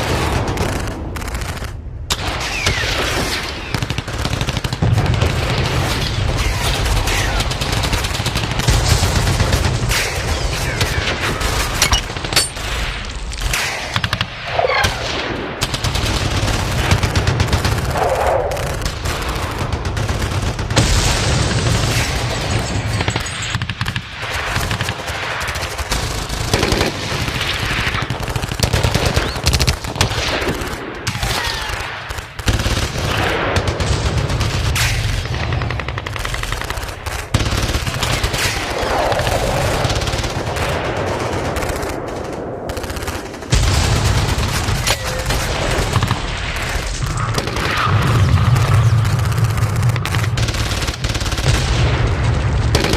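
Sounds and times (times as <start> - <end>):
machine-gun and rifle fire: 0.0 - 52.9.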